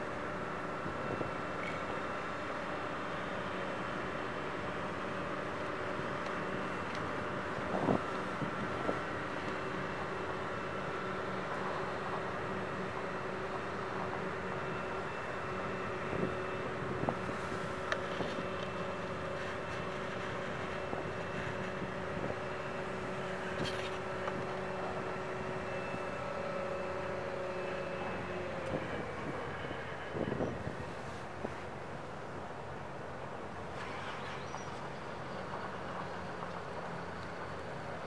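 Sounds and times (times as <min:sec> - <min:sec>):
crane machinery hum: 0:00.0 - 0:38.0.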